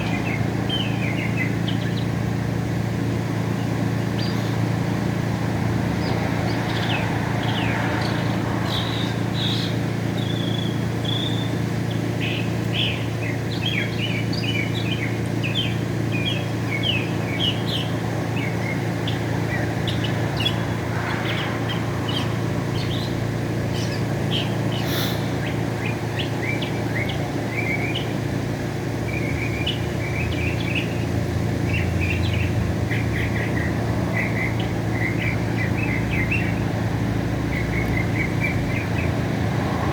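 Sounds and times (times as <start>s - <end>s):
mockingbird singing: 0.0s - 2.2s, 6.0s - 28.3s, 29.0s - 36.8s, 37.4s - 39.3s.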